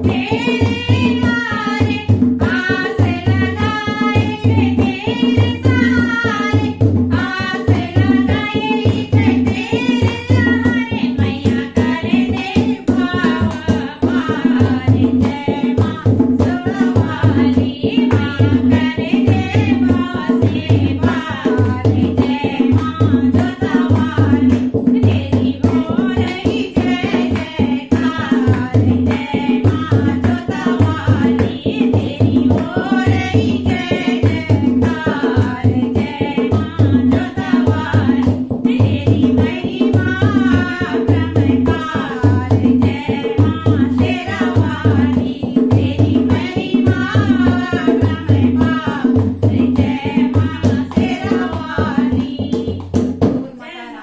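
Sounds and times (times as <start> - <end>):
hand drum beat: 0.0 - 53.6
women singing devotional song: 0.0 - 54.0.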